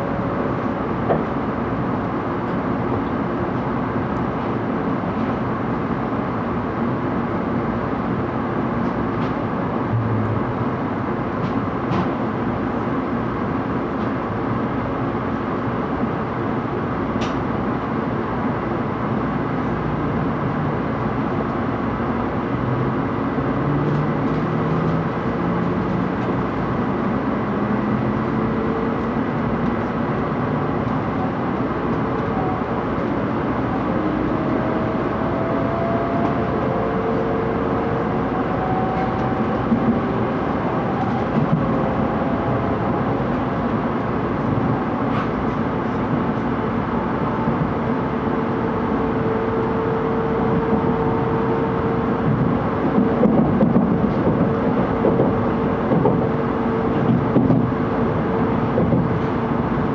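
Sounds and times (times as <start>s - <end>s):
train cabin running rumble: 0.0s - 59.9s.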